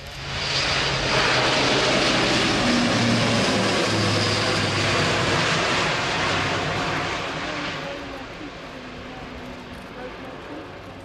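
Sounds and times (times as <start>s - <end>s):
turboprop aircraft passing: 0.0s - 11.0s.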